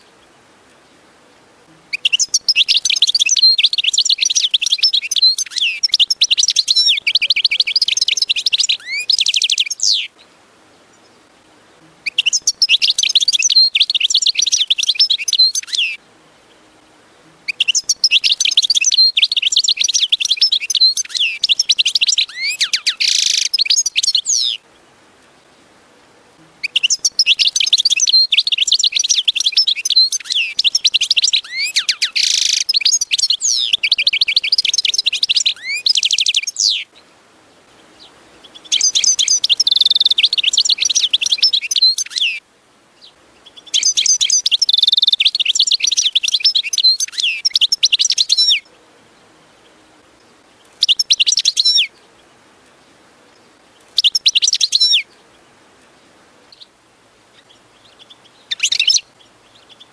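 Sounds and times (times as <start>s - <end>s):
goldfinch twittering song: 1.9s - 11.3s, 12.0s - 16.7s, 17.4s - 25.7s, 26.6s - 42.4s, 43.0s - 56.7s, 57.3s - 59.9s.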